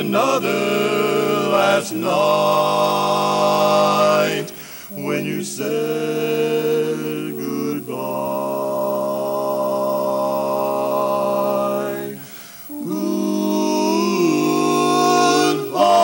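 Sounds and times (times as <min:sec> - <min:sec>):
male quartet singing a cappella: 0:00.0 - 0:16.0.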